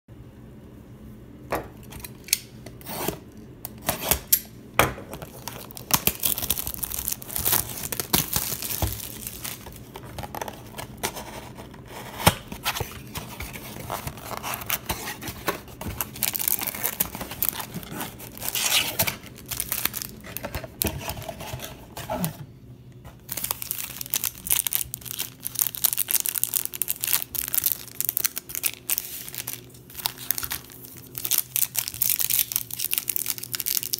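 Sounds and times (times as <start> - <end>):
plastic wrap crinkling and tearing: 5.1 - 22.3, 23.2 - 33.9.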